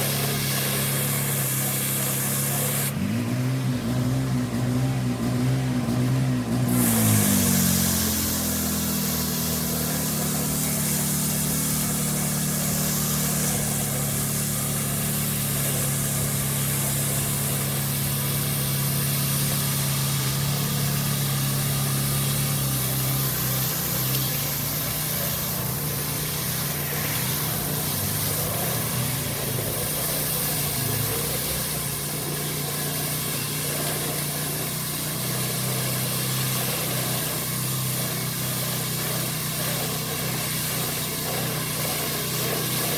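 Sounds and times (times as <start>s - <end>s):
pressure washer engine running: 0.0s - 42.9s
water spraying onto tarmac: 0.0s - 42.9s.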